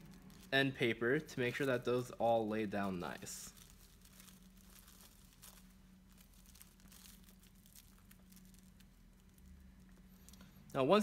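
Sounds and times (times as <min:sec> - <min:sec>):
paper crinkling and rustling: 0:00.0 - 0:10.7
low steady hum: 0:00.0 - 0:11.0.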